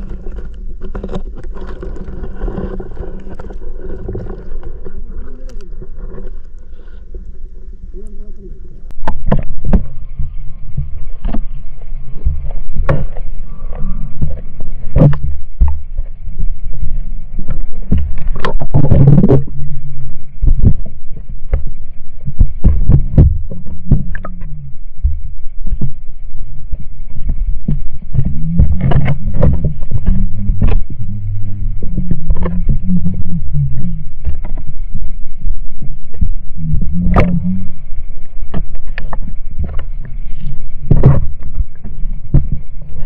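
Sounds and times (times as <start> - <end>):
knocks and clicks underwater: 0.0 - 43.0
muffled underwater rumble: 0.0 - 43.0.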